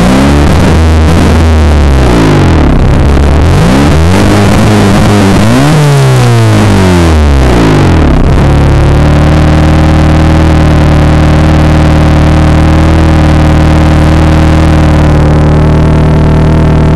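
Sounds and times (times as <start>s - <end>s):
car exhaust revving and idling: 0.0s - 16.9s.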